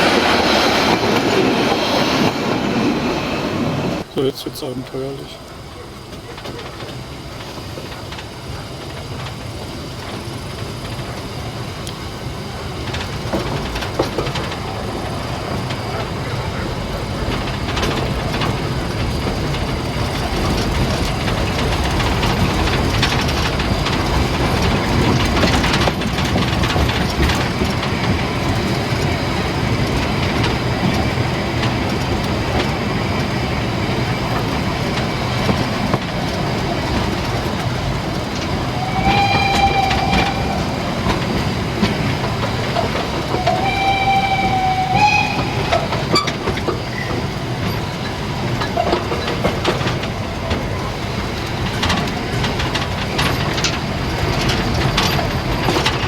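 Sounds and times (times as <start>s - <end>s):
train wheels rattling on track: 0.0s - 56.0s.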